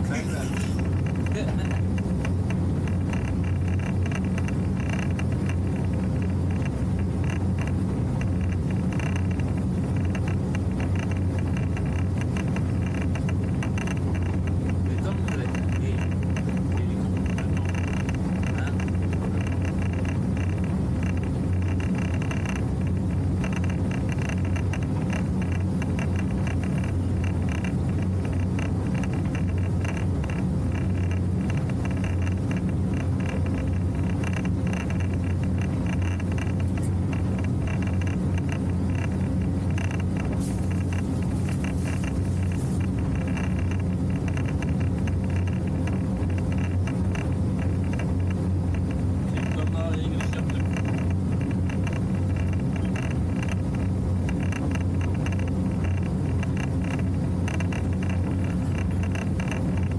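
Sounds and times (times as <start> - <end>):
motorboat engine drone: 0.0 - 59.9
water rushing along hull: 0.0 - 59.9.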